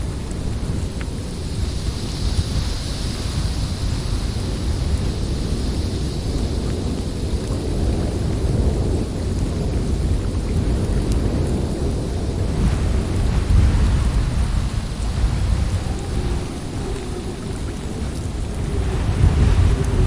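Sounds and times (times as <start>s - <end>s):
strong wind gusting: 0.0s - 20.0s.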